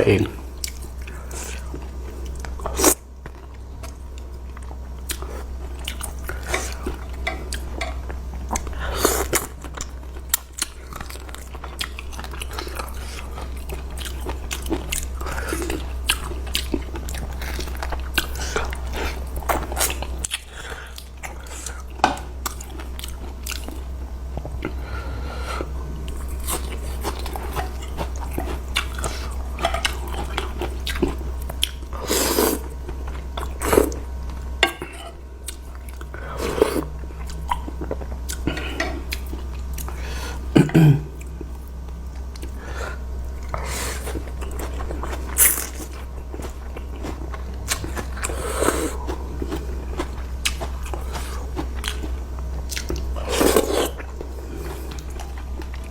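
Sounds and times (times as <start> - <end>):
person chewing noodles: 0.4 - 55.9.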